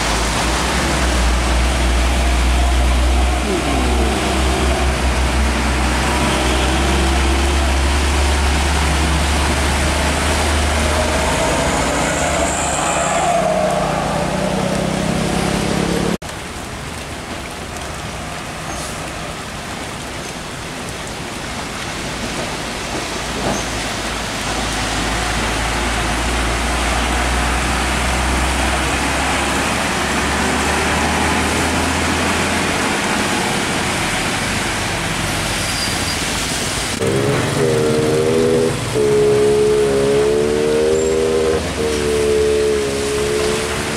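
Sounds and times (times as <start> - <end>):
diesel trucks passing: 0.0 - 16.2, 21.2 - 43.9
rain and tyres hissing: 0.0 - 43.9.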